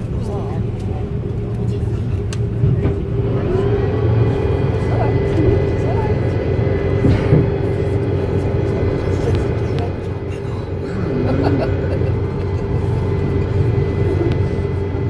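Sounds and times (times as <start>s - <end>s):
jet engines rumbling: 0.0s - 15.0s
steady hum: 0.0s - 15.0s.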